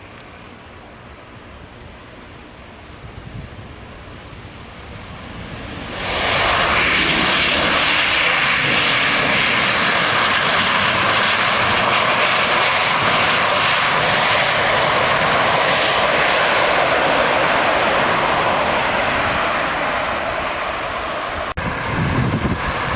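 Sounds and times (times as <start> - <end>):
airliner engine noise: 0.0 - 22.9.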